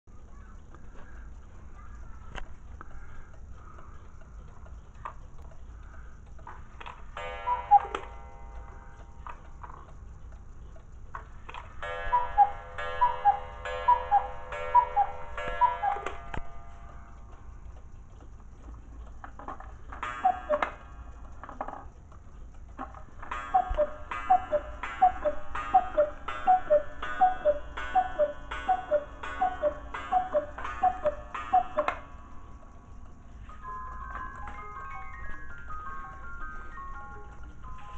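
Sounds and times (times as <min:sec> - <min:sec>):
clock mechanism clicks: 0:00.1 - 0:37.9
cuckoo clock calling: 0:00.1 - 0:37.9.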